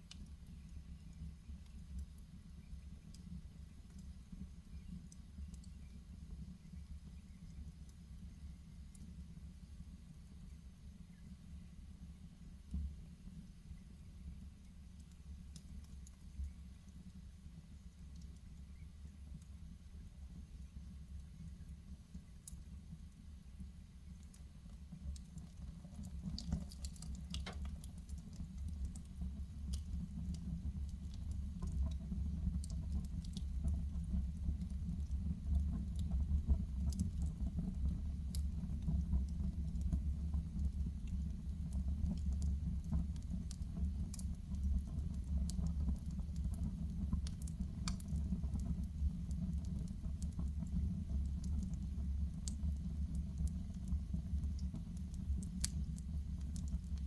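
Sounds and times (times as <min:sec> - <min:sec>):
wood fire crackling: 0:00.0 - 0:11.4, 0:12.4 - 0:57.0
fire low rumble: 0:00.0 - 0:57.0.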